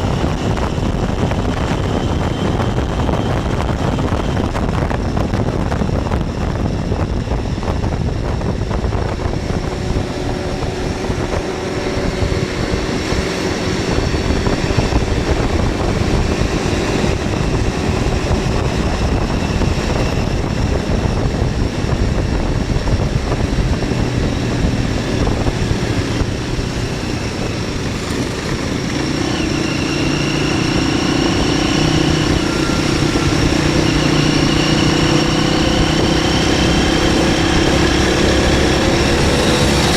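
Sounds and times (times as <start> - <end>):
motorcycle engine running: 0.0 - 39.9
rumbling wind noise: 0.0 - 39.9.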